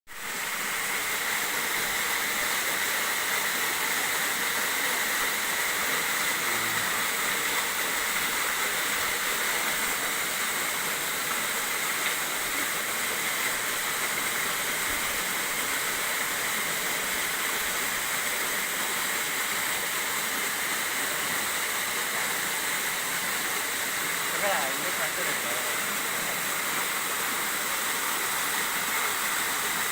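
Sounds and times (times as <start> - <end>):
waterfall rushing: 0.2 - 29.9.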